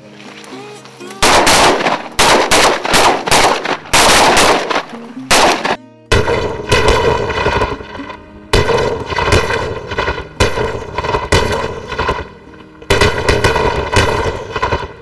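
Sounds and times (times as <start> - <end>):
shotguns firing: 1.2 - 15.0.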